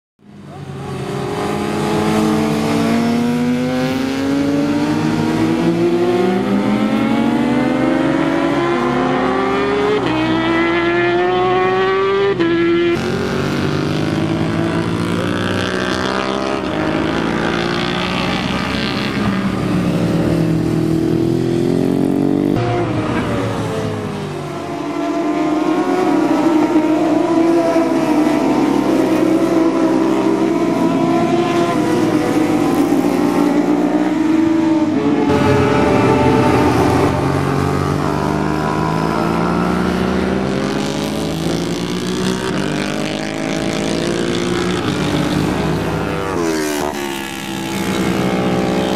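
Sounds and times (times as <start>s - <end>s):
motorcycles accelerating hard: 0.2s - 48.9s.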